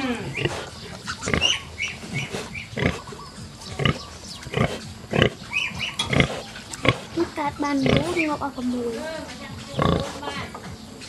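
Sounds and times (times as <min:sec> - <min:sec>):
sow grunting: 0:00.0 - 0:08.6, 0:09.6 - 0:10.6
piglets squeaking: 0:00.0 - 0:11.0.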